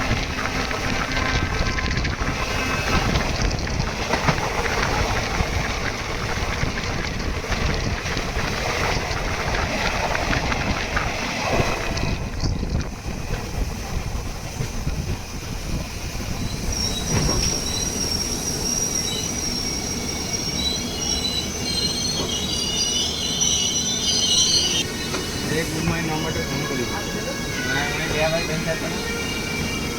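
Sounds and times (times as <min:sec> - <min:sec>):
train rumbling on rails: 0:00.0 - 0:29.9
wheels squealing against rails: 0:00.0 - 0:29.9.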